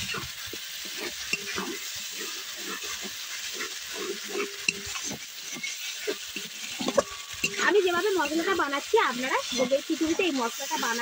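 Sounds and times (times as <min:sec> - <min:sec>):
paste sizzling in oil: 0:00.0 - 0:11.0
wooden spatula scraping a pan: 0:00.0 - 0:11.0.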